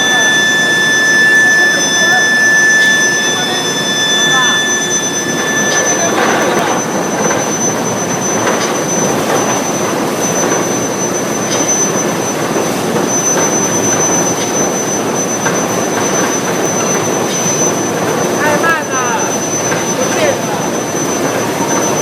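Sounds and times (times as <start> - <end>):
high-pitched whine: 0.0 - 22.0
industrial furnace noise: 0.0 - 22.0.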